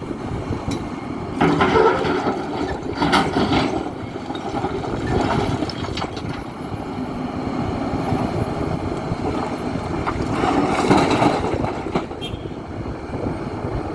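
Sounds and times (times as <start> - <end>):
excavator diesel engine under load: 0.0 - 13.9.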